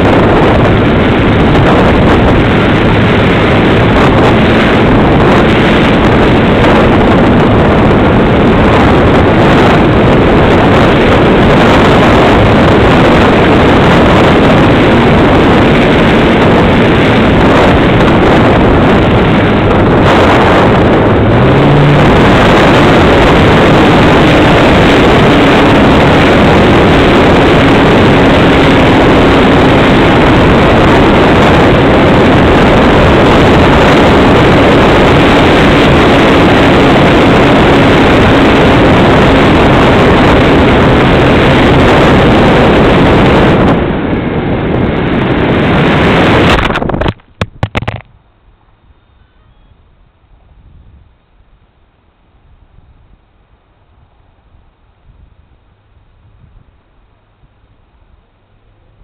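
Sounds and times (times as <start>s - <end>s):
wind buffeting: 0.0s - 59.0s.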